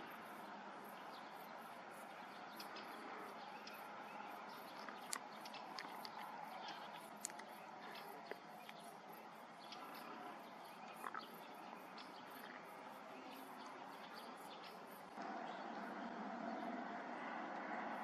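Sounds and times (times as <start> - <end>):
insects chirping: 0.0 - 17.3.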